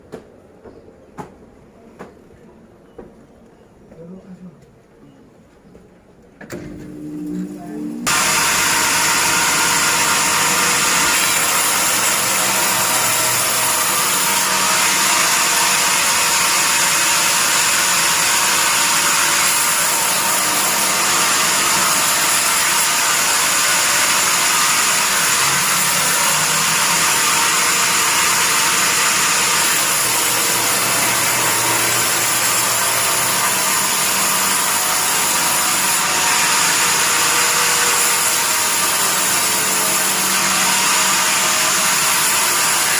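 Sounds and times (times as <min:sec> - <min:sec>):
band sawmill hissing: 0:08.0 - 0:42.9.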